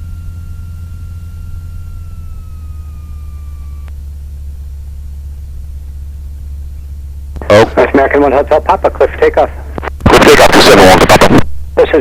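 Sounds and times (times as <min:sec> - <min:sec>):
aircraft radial engine idling: 0:00.0 - 0:11.0, 0:11.6 - 0:12.0
thin steady whine: 0:00.0 - 0:12.0.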